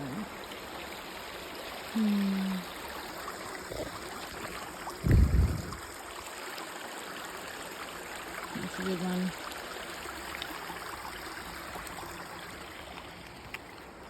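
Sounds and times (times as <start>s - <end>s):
creek water running over rocks: 0.0s - 14.0s.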